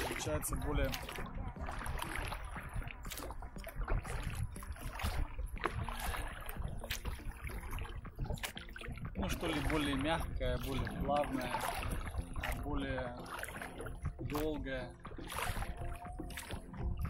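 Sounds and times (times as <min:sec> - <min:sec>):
oars splashing: 0:00.0 - 0:17.0
water washing against boat: 0:00.0 - 0:17.0.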